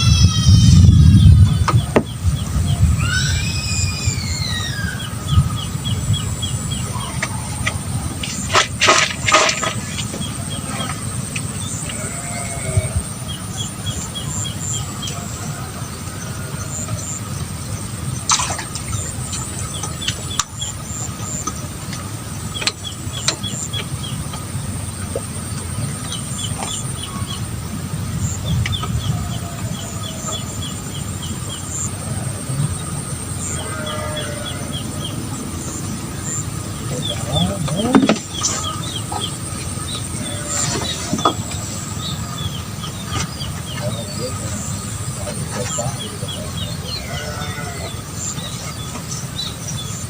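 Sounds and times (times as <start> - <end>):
steady low rumble: 0.0 - 50.0.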